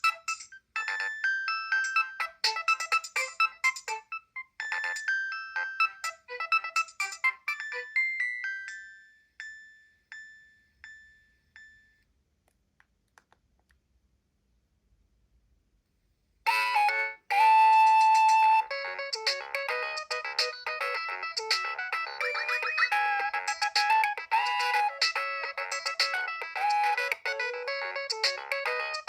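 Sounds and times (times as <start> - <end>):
polyphonic ringtone melody: 0.0 - 12.0, 16.5 - 29.0.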